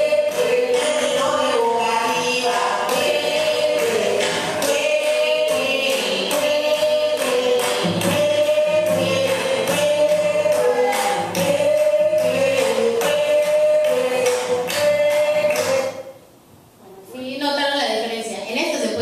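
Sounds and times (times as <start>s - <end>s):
group of voices singing: 0.0s - 16.1s
sharp percussive strikes: 0.0s - 16.1s.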